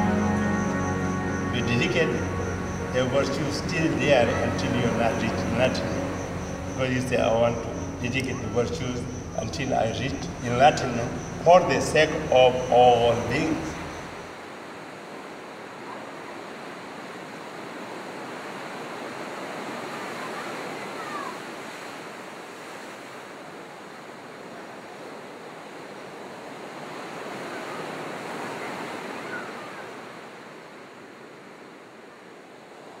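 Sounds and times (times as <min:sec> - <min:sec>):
waves washing: 0:00.0 - 0:33.0.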